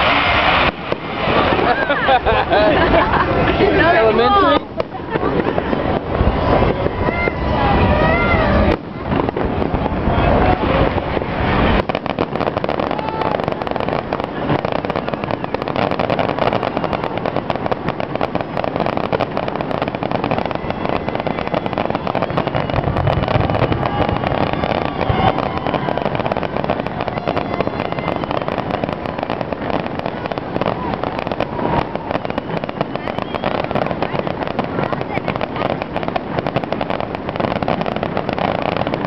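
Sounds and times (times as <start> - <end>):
firework bursts crackling: 0.0 - 39.0.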